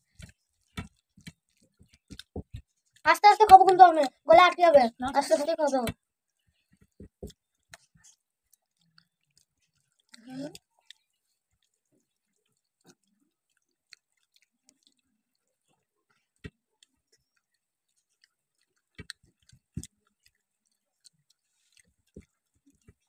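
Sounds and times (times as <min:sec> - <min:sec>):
quiet chewing: 0:00.0 - 0:04.3, 0:04.9 - 0:23.0.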